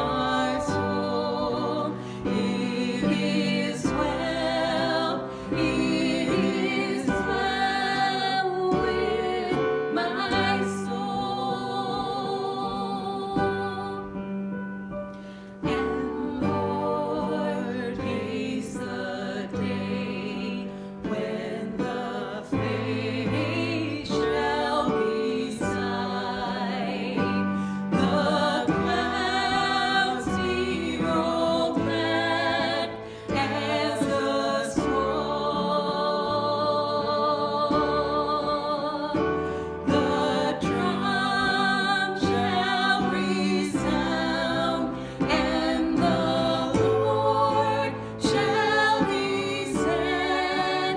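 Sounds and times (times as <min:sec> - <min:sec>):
instrumental accompaniment: 0:00.0 - 0:50.9
person singing worship song: 0:00.0 - 0:50.9.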